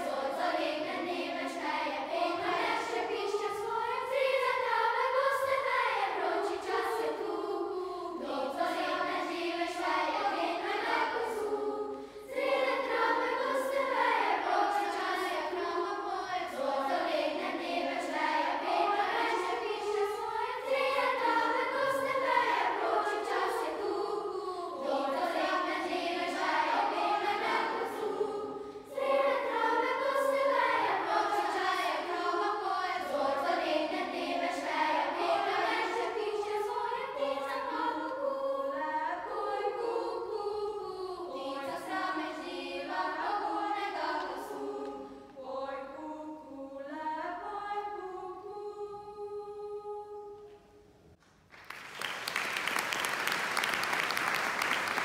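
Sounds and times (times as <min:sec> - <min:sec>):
children's choir singing: 0:00.0 - 0:51.0.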